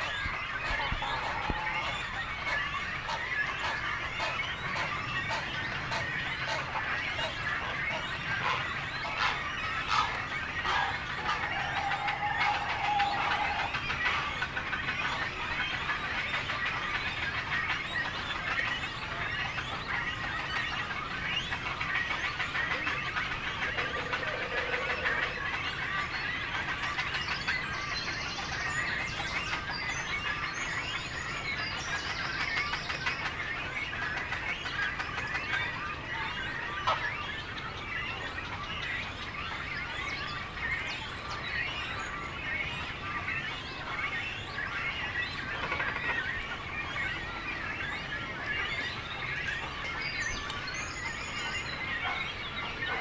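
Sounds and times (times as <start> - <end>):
birds chattering: 0.0 - 53.0.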